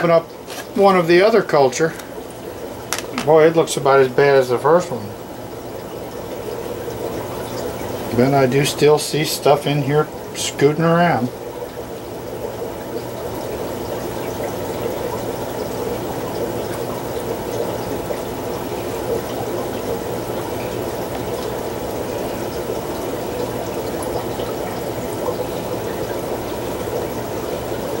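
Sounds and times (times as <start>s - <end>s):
water trickling: 0.0s - 28.0s.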